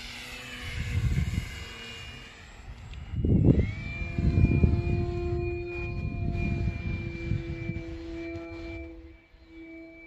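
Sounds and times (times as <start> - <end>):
wind rumble on microphone: 0.0 - 9.6
model airplane motor whining: 0.0 - 10.0.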